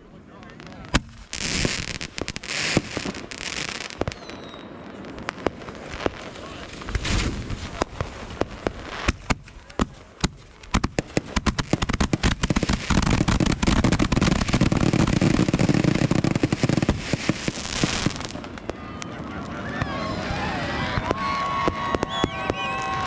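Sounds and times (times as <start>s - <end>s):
fireworks bangs and crackle: 0.0s - 23.0s.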